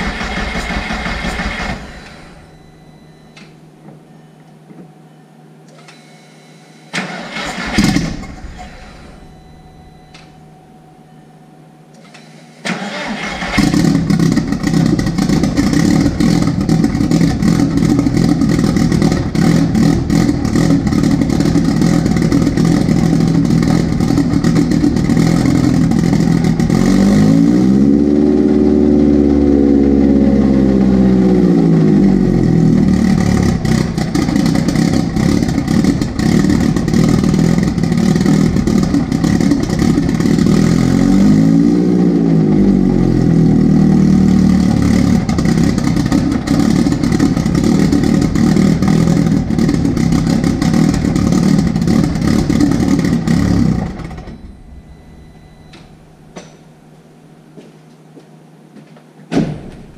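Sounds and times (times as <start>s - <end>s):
car engine starting and idling: 0.0s - 3.0s, 6.9s - 10.4s, 12.0s - 57.0s.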